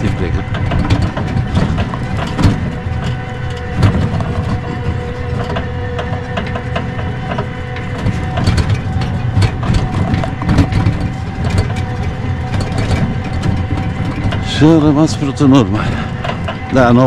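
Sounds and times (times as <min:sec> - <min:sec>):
knocks and rattles: 0:00.0 - 0:17.0
tricycle engine pulling uphill: 0:00.0 - 0:17.0.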